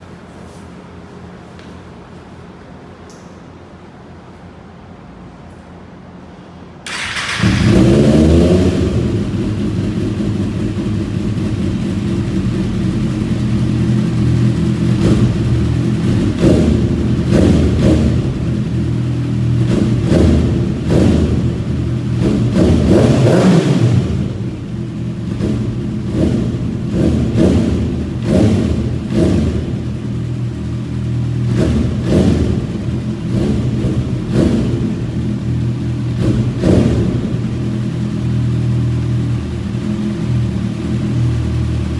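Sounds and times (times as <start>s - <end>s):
motorcycle engine starting: 6.8s - 41.9s
motorcycle engine idling and revving: 6.9s - 41.9s.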